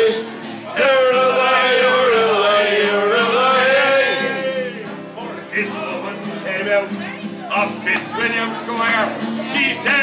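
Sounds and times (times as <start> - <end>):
acoustic guitars playing: 0.0 - 10.0
man singing folk song: 0.0 - 10.0.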